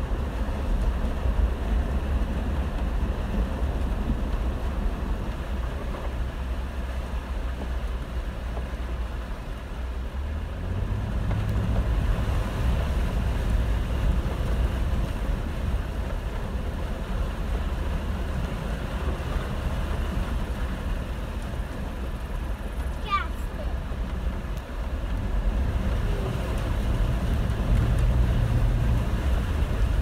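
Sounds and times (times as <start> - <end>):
engine and drivetrain rumble: 0.0 - 30.0.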